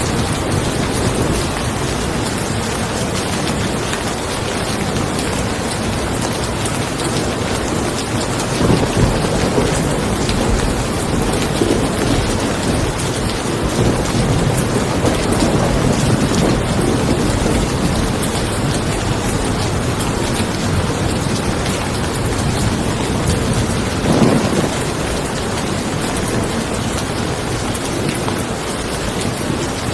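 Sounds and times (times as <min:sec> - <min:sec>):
rolling thunder rumble: 0:00.0 - 0:29.9
steady rain: 0:00.0 - 0:29.9.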